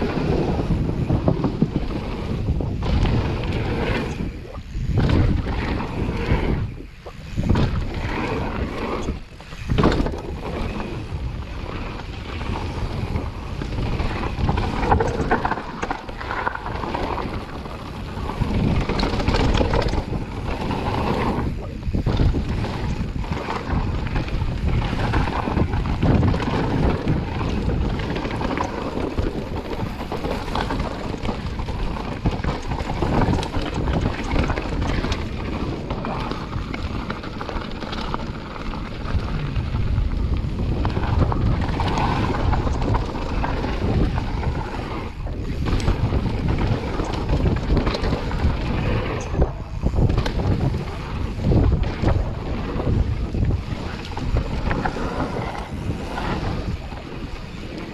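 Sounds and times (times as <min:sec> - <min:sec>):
bike rattling and knocking: 0:00.0 - 0:57.9
bike tyres on dirt: 0:00.0 - 0:57.9
wind buffeting microphone: 0:00.0 - 0:57.9.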